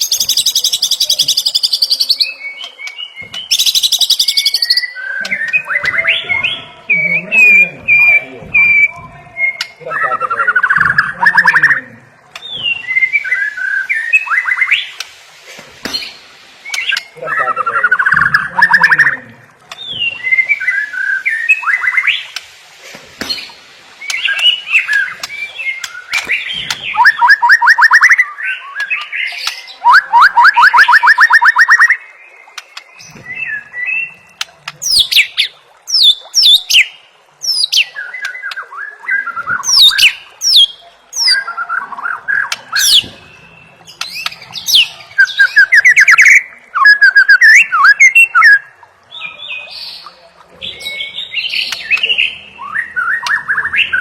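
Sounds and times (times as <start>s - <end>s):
songbird singing trills and whistles: 0.0s - 15.0s, 15.9s - 22.4s, 23.3s - 54.0s.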